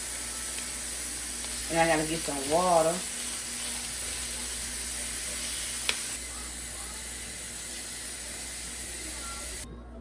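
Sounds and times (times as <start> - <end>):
meat sizzling in a frying pan: 0.0 - 9.6.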